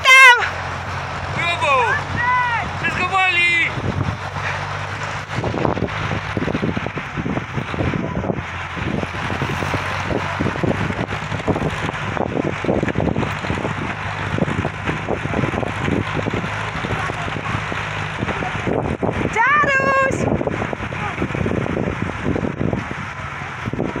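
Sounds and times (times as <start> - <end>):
engine hum: 0.0 - 24.0
sled runners scraping on snow: 0.5 - 21.6.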